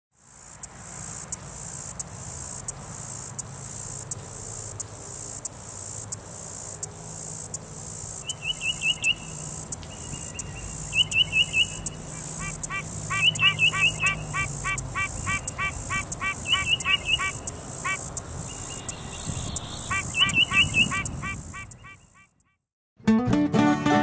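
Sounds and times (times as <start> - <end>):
insects buzzing: 0.2 - 22.4
songbird singing: 1.1 - 22.4.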